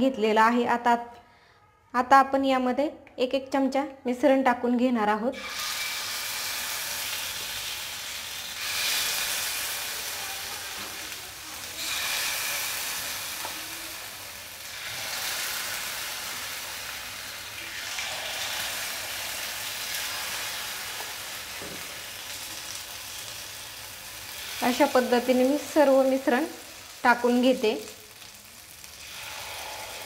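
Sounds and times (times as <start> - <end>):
batter sizzling in hot oil: 5.4 - 30.0.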